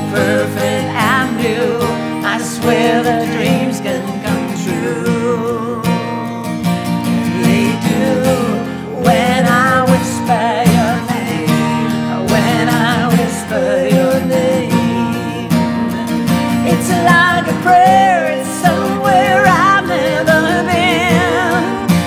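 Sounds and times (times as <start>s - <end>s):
man and woman singing in harmony: 0.0s - 6.4s, 7.2s - 22.0s
acoustic guitar strumming: 0.0s - 22.0s.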